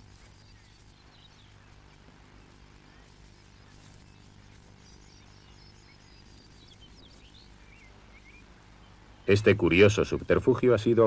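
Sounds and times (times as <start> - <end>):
faint bird chirps: 0.0 - 10.9
background hiss: 0.0 - 11.0
faint low hum: 0.0 - 11.0.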